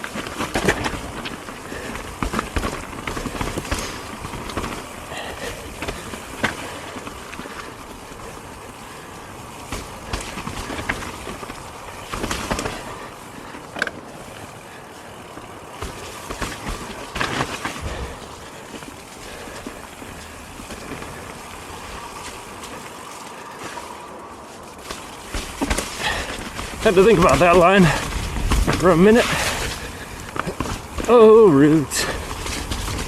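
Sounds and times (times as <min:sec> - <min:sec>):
bike knocking and rattling: 0:00.0 - 0:33.0
bike tyres rolling on dirt: 0:00.0 - 0:33.0.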